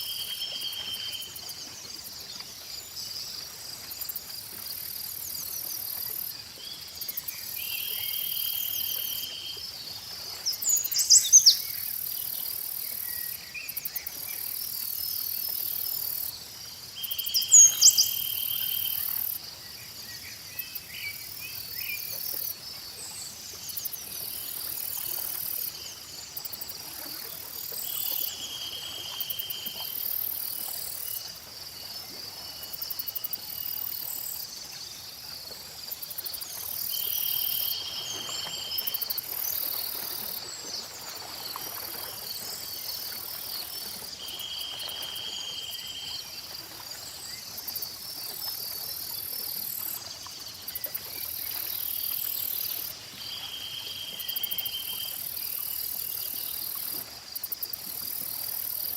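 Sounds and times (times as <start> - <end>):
insects chirring: 0.0 - 58.9.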